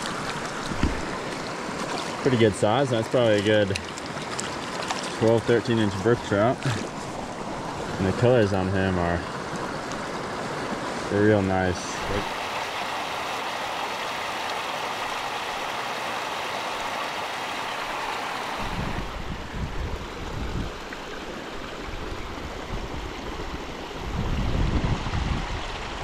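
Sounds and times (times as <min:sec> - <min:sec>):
creek water running over rocks: 0:00.0 - 0:26.0.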